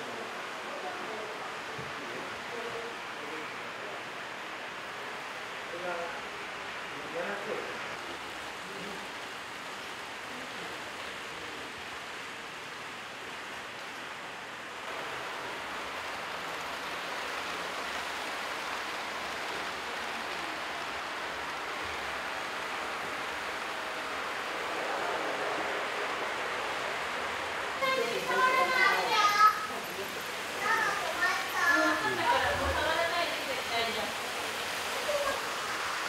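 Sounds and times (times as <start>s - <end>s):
steady rushing noise: 2.3s - 36.0s.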